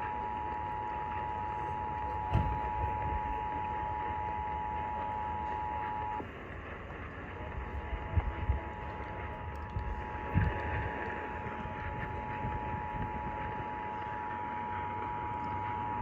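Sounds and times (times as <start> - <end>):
broadcast hiss: 0.0 - 16.0.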